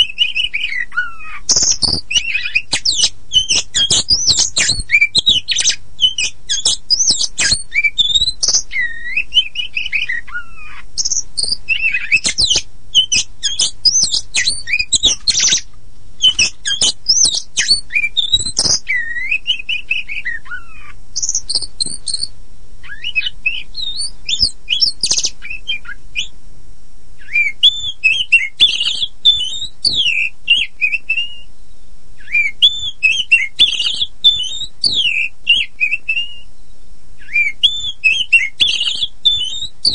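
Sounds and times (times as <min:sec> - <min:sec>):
songbird singing whistles and trills: 0:00.0 - 0:26.4, 0:27.2 - 0:39.9.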